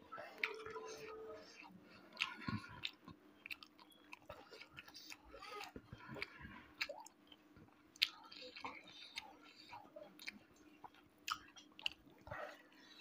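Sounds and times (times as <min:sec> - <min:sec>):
close chewing with mouth smacks: 0:00.1 - 0:13.0.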